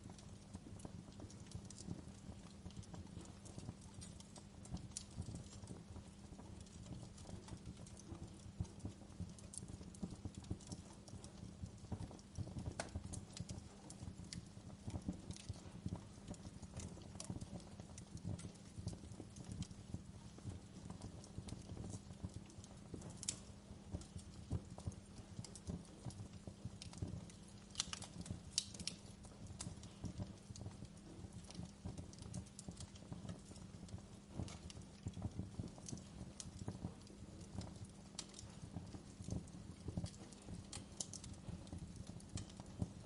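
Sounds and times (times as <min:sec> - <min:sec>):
fire crackling and popping: 0:00.0 - 0:43.0
fire low rumble: 0:00.0 - 0:43.0.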